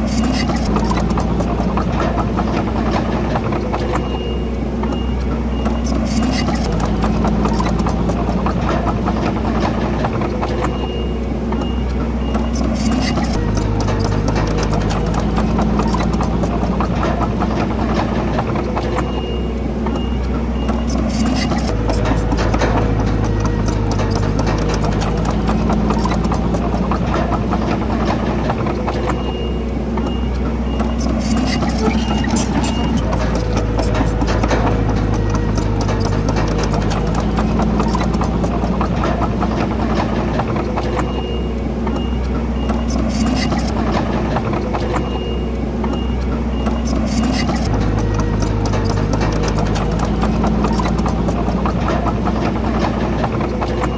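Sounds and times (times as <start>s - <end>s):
heavy diesel engine running: 0.0s - 53.9s
small metal clanks and rattles: 0.0s - 53.9s.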